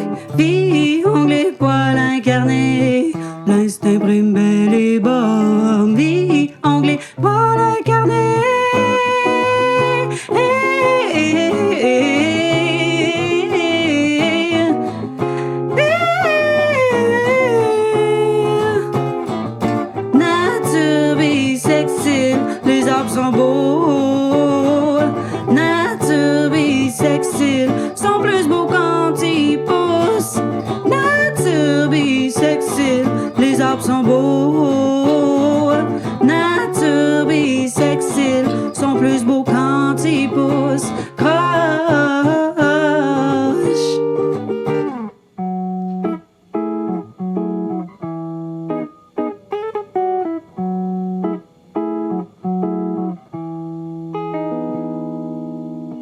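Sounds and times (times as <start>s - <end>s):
person singing: 0.0s - 45.0s
plucked guitar: 0.0s - 56.0s.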